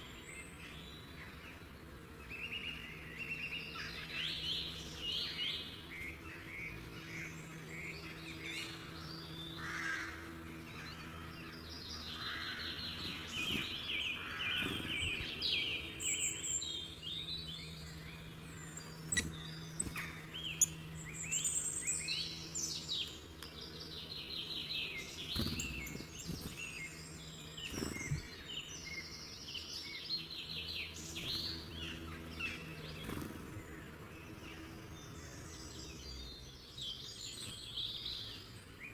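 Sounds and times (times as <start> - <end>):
songbirds chirping and singing: 0.0 - 38.9.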